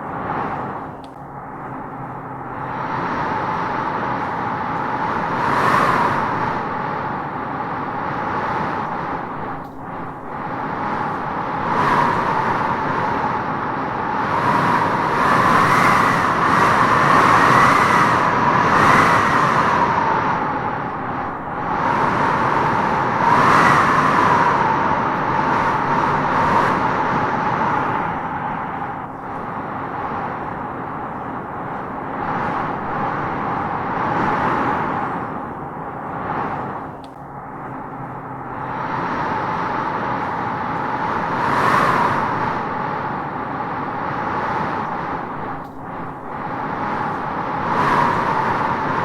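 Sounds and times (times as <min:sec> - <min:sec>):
wind howling through trees: 0:00.0 - 0:49.0.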